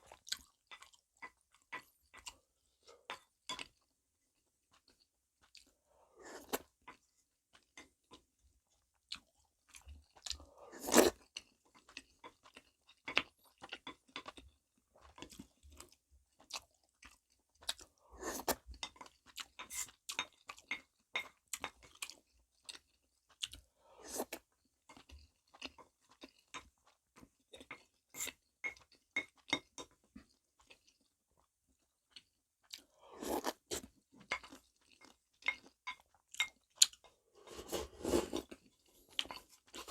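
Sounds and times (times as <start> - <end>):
person chewing crunchy crab shells: 0.0 - 3.9, 7.6 - 39.9.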